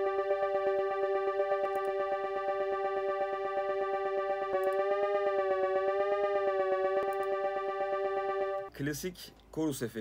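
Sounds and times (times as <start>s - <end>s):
pulsing synthesizer note: 0.0s - 8.7s.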